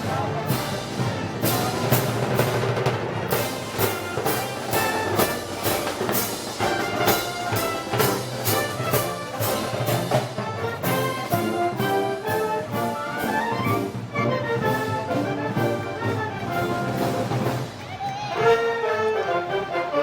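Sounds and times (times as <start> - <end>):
steady drum beat: 0.0 - 17.8
trumpets and trombones playing: 0.0 - 20.0.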